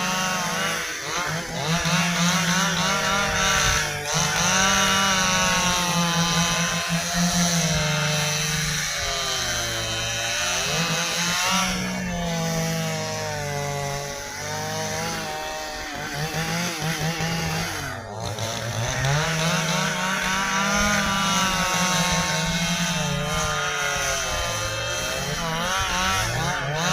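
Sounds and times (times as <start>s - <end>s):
chainsaw cutting through log: 0.0s - 26.9s.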